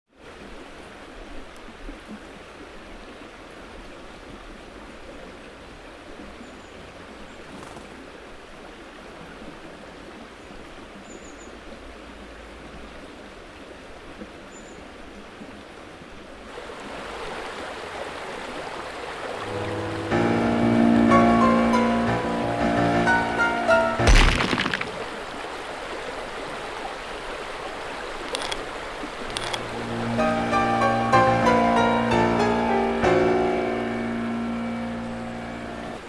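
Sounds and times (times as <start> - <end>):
river water flowing over rocks: 0.1 - 36.0.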